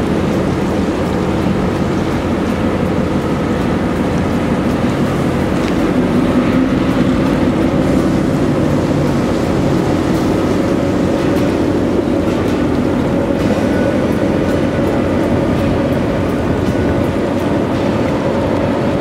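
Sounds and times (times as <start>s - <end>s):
boat diesel engine humming: 0.0s - 19.0s
churning water: 0.0s - 19.0s.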